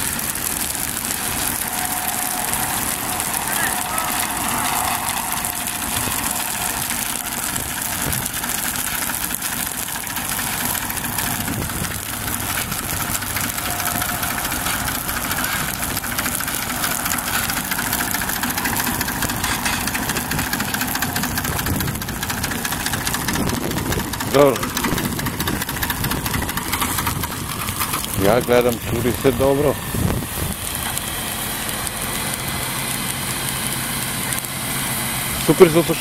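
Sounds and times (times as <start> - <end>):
engine idling: 0.0 - 36.0
fire hose spraying water: 0.0 - 36.0.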